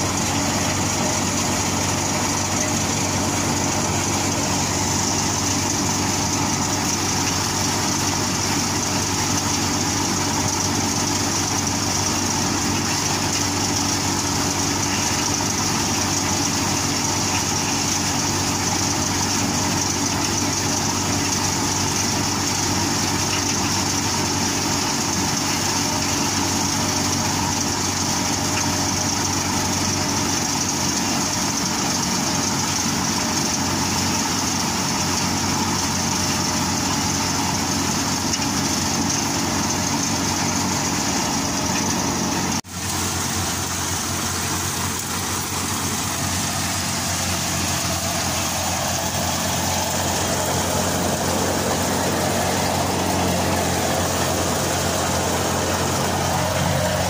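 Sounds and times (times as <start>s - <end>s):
tractor and thresher droning: 0.0s - 57.0s.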